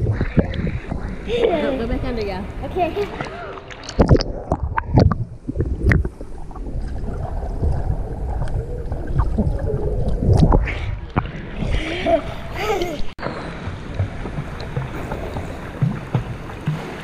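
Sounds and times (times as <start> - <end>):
underwater bubbling: 0.0 - 17.0.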